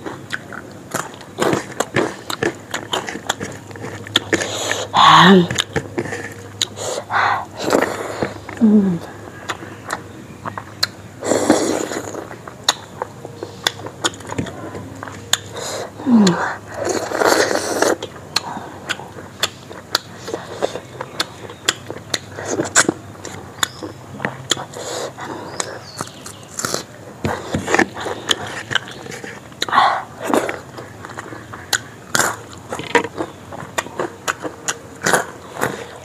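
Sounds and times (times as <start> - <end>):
person chewing with mouth open: 0.0 - 36.0.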